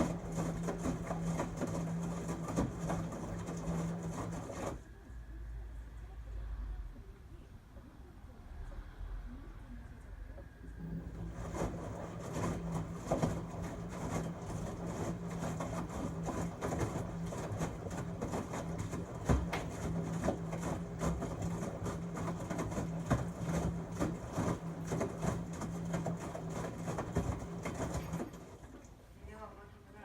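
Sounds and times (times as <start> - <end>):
washing machine humming: 0.0 - 6.2, 9.4 - 30.0.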